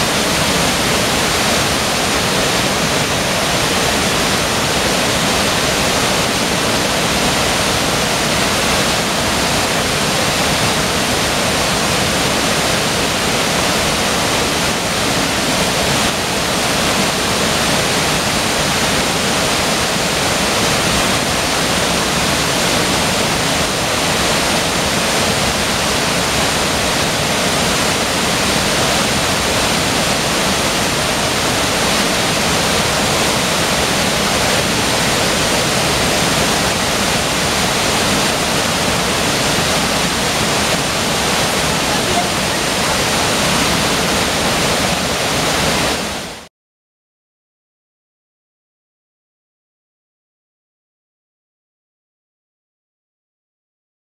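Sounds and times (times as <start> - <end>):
waterfall rushing: 0.0 - 46.5.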